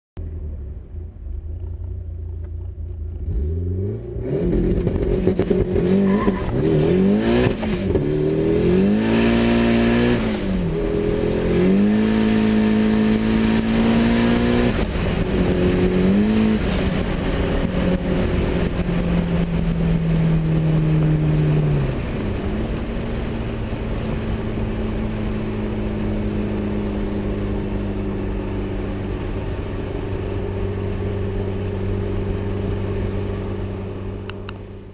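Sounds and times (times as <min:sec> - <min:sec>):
car engine revving hard: 0:03.2 - 0:34.1.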